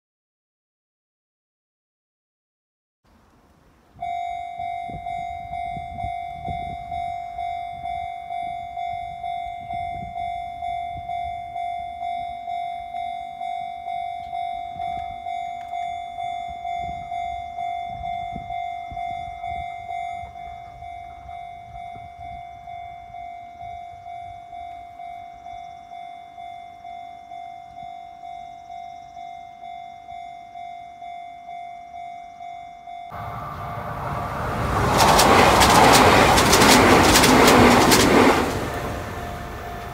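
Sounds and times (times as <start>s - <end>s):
level crossing warning bell: 4.0s - 39.9s.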